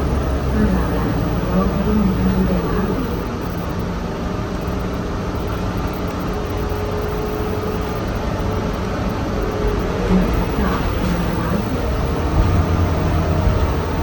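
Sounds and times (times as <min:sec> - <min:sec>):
bus rumbling in motion: 0:00.0 - 0:14.0
faint steady whine: 0:00.0 - 0:14.0.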